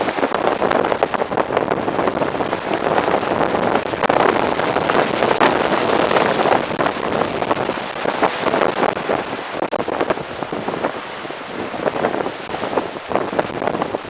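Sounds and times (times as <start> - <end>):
heavy surf breaking: 0.0 - 14.0
wind buffeting microphone: 0.0 - 14.0.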